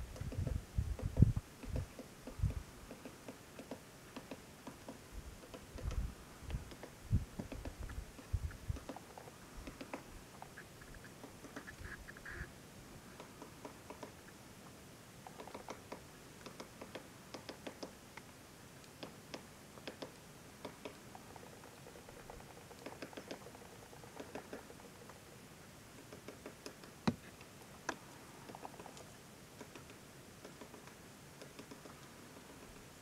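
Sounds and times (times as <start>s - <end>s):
low hiss: 0.0s - 33.0s.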